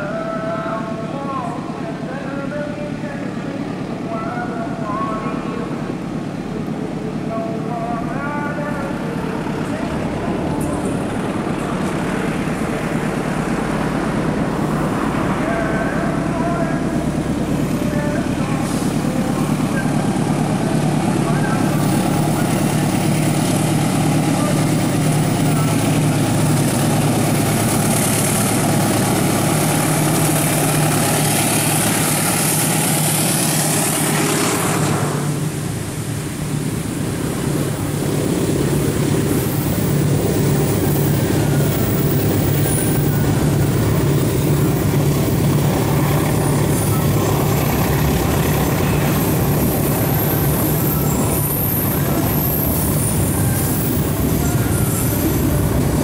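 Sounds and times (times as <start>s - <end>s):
diesel locomotive engine: 0.0s - 56.0s
train wheels rumbling on rails: 0.0s - 56.0s.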